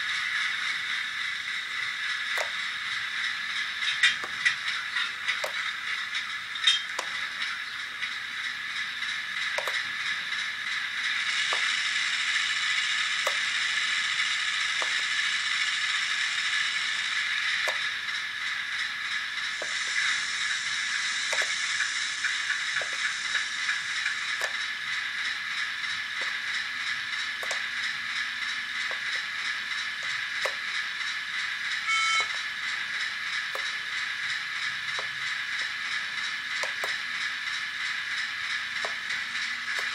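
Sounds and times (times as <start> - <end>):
model train engine sound: 0.0 - 39.9.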